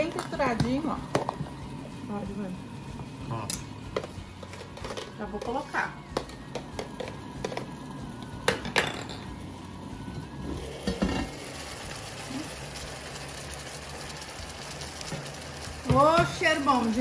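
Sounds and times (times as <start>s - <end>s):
chicken sizzling: 0.0s - 17.0s.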